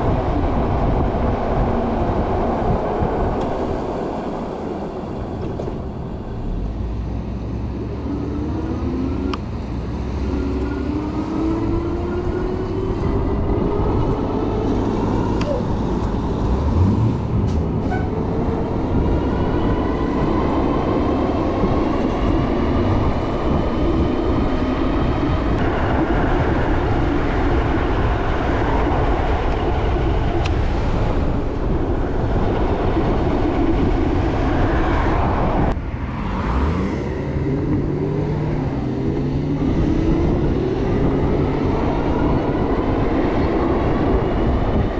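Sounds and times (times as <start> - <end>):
steady rushing noise: 0.0 - 44.9.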